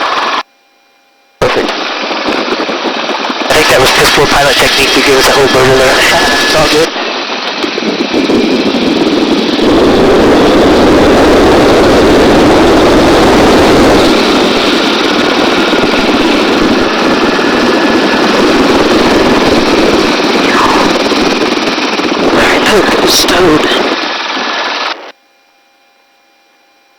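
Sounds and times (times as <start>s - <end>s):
helicopter rotor and turbine noise: 0.0s - 0.4s, 1.4s - 25.2s.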